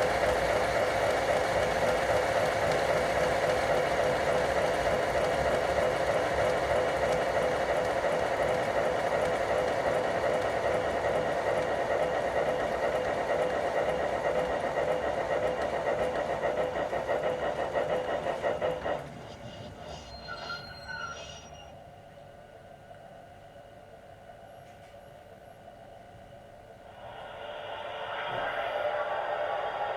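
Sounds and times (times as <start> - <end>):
model steam locomotive sound: 0.0 - 21.8, 25.7 - 29.9.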